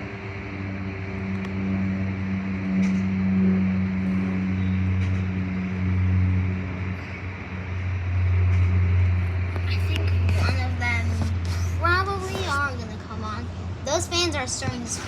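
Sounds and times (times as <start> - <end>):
machine drone: 0.0 - 12.5.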